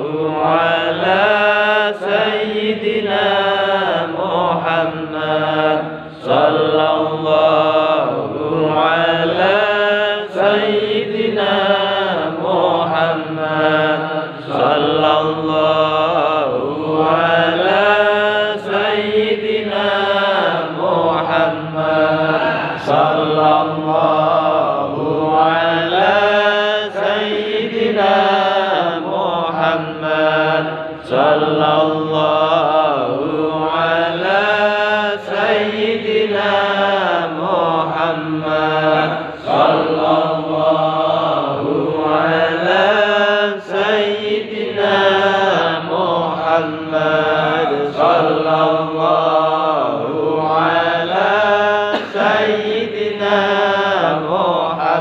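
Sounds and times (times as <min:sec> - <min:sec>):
men chanting devotional praise: 0:00.0 - 0:55.0.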